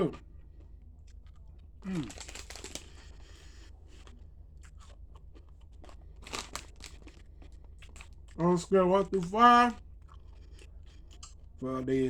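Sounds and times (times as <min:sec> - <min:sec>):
crunching and chewing popcorn: 0:00.0 - 0:12.0.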